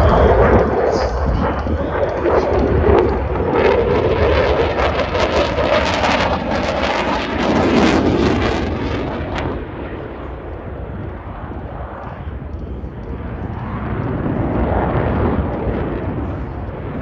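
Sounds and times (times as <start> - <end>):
jet engines flying past: 0.0 - 17.0.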